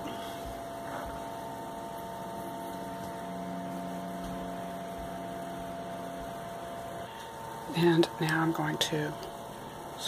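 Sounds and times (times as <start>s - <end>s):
appliance hum: 0.0s - 10.0s.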